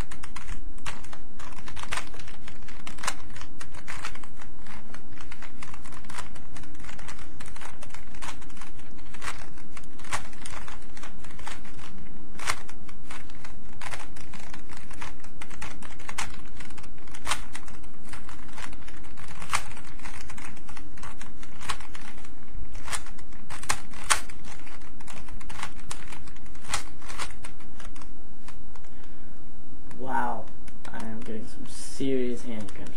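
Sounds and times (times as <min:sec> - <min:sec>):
plastic puzzle cube clicking: 0:00.0 - 0:28.1.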